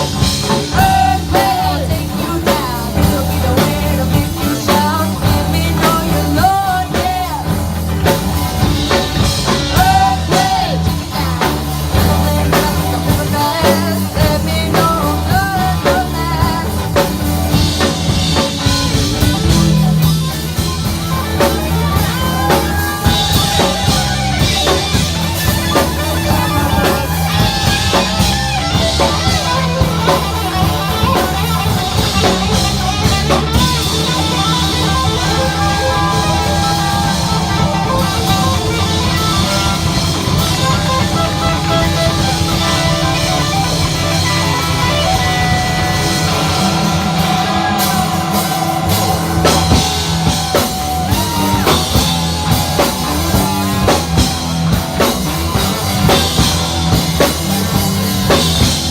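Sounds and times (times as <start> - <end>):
bass guitar: 0.0 - 58.9
drum kit: 0.0 - 58.9
electric guitar: 0.0 - 58.9.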